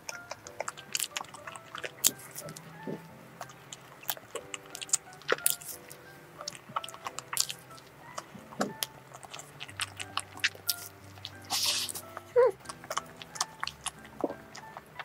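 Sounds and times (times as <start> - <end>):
soft background music: 0.0 - 15.0
wet chewing smacks: 0.0 - 15.0.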